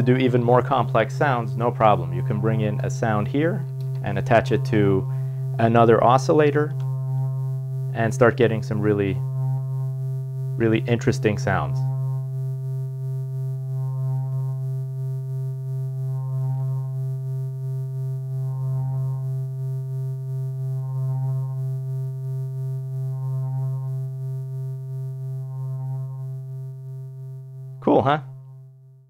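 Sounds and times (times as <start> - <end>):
synthesizer low drone: 0.0 - 28.8.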